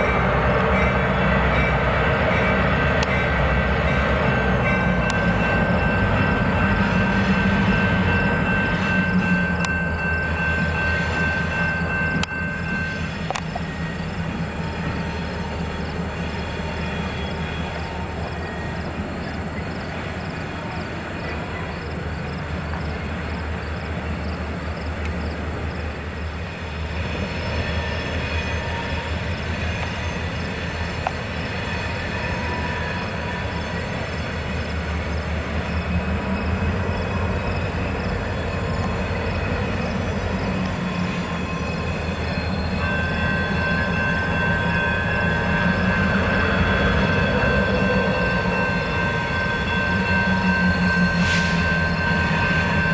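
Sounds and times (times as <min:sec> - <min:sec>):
train rumbling and rattling: 0:00.0 - 0:52.9.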